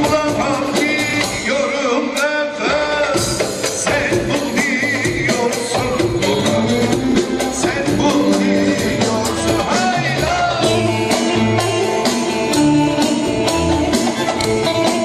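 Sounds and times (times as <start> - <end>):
live band music with vibrato melody: 0.0 - 15.0
steady percussion beat: 0.0 - 15.0.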